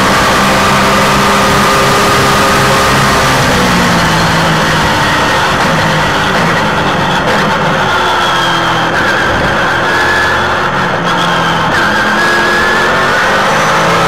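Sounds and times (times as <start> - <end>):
race car engine running hard: 0.0 - 14.0
wind and road noise: 0.0 - 14.0.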